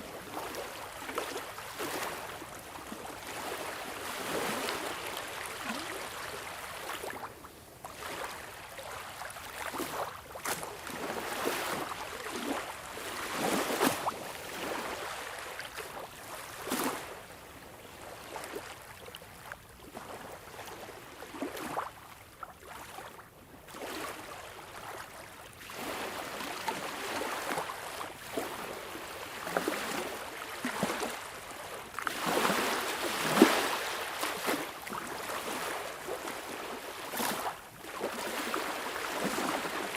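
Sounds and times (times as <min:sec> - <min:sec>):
sea waves washing and lapping: 0:00.0 - 0:39.9.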